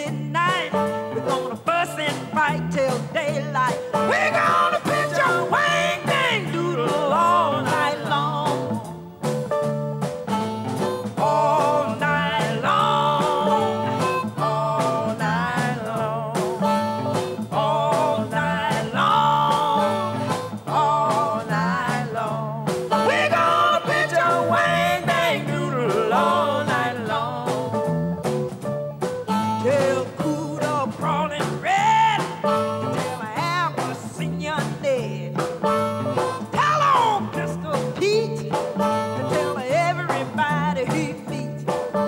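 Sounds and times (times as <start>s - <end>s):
woman singing into a microphone: 0.0s - 9.0s, 11.0s - 28.0s, 29.3s - 42.0s
blues band playing live: 0.0s - 42.0s.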